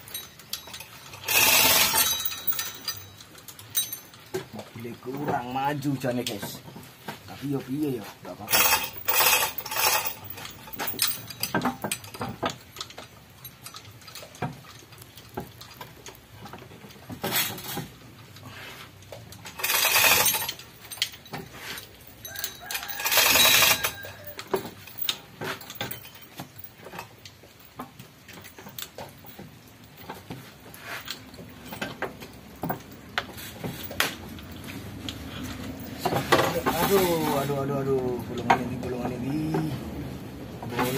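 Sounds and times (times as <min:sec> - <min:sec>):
chain hoist rattling and clicking: 0:00.0 - 0:40.9
metal clinks and knocks: 0:00.0 - 0:40.9.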